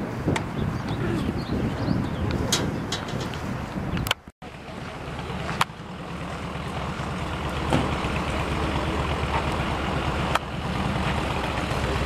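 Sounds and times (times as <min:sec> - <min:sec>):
low rumbling outdoor noise: 0:00.0 - 0:12.0.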